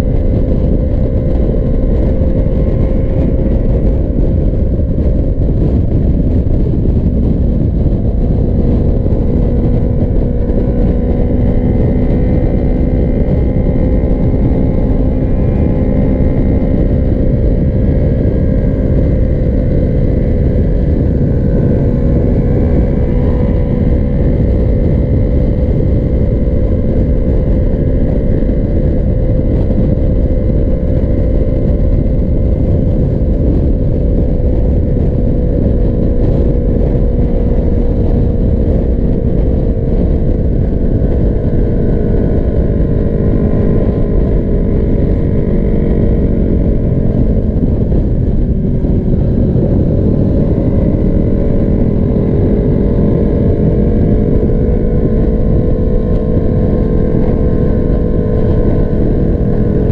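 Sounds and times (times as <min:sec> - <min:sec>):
motorcycle engine droning: 0:00.0 - 0:59.9
wind rush: 0:00.0 - 0:59.9.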